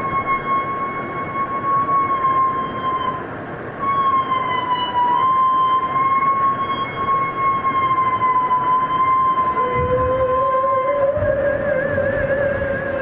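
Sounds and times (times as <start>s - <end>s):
steady hiss: 0.0s - 13.0s
whale call: 0.0s - 13.0s.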